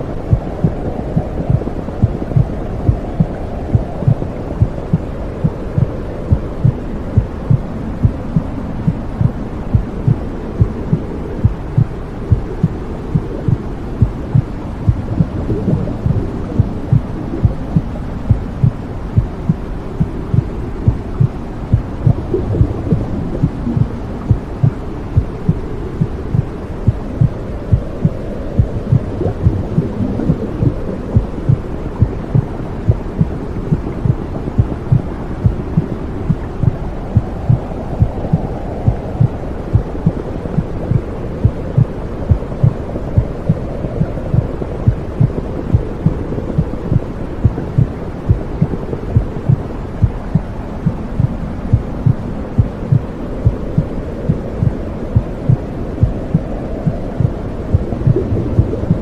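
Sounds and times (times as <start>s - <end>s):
low whooshing rumble: 0.0s - 59.0s
heartbeat thumps: 0.3s - 59.0s.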